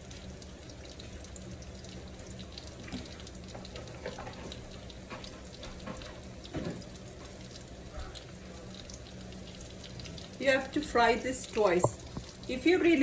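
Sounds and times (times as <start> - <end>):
food sizzling in oil: 0.0 - 13.0
oil popping and crackling: 0.0 - 13.0.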